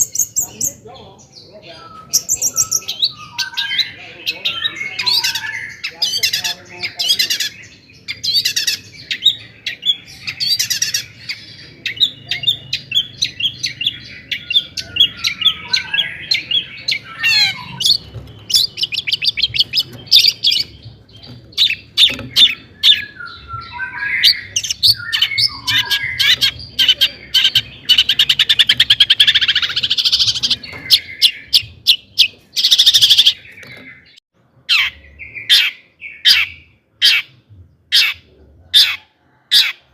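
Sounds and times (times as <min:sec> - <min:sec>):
shrike singing: 0:00.0 - 0:37.2.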